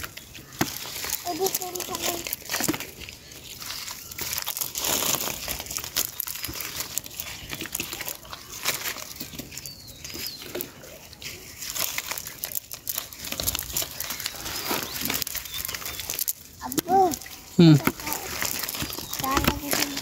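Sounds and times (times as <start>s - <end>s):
fishing net and leaves crackling: 0.0s - 20.0s.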